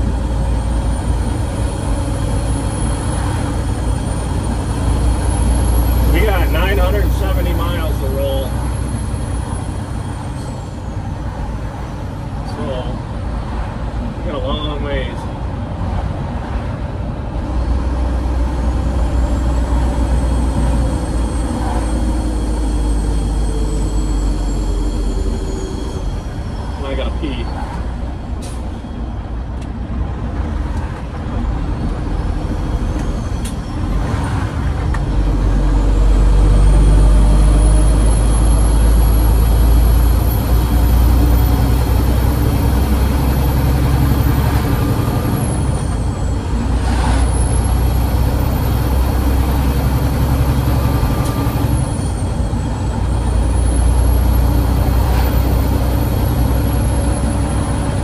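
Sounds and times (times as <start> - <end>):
diesel truck engine pulling: 0.0 - 58.0.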